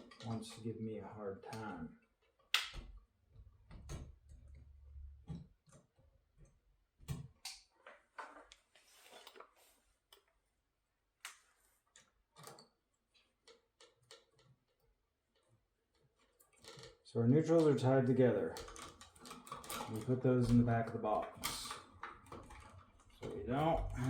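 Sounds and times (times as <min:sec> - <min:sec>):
wires clicking and tapping: 0:01.5 - 0:09.5, 0:11.2 - 0:24.0.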